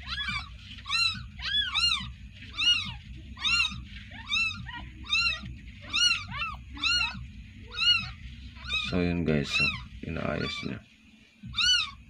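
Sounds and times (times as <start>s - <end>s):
kitten mewing: 0.0s - 10.8s, 11.5s - 12.0s.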